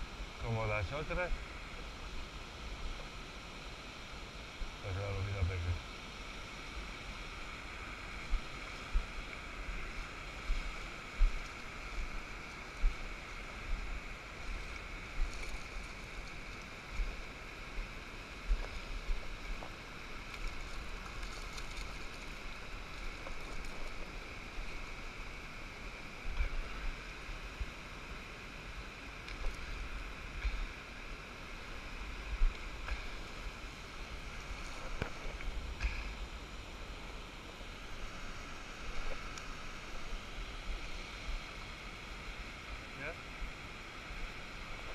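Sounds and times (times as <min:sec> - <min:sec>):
small surf washing: 0:00.0 - 0:44.9
wind rumbling on microphone: 0:04.0 - 0:41.8.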